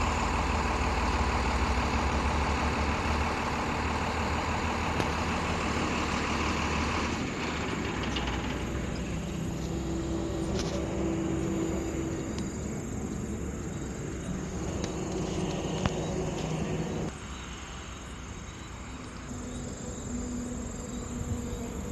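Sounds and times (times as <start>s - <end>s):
truck engine idling: 0.0s - 19.8s
crickets chirping: 0.0s - 21.9s.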